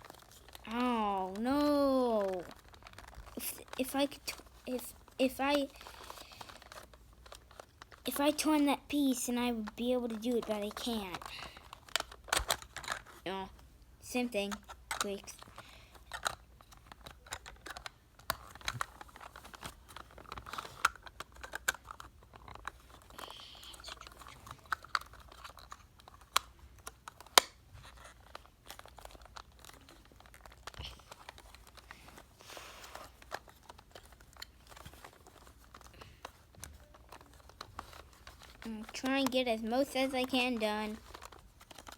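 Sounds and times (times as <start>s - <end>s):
plastic puzzle cube clicking: 0.0s - 8.3s, 9.6s - 13.2s, 14.2s - 32.2s, 32.8s - 41.9s.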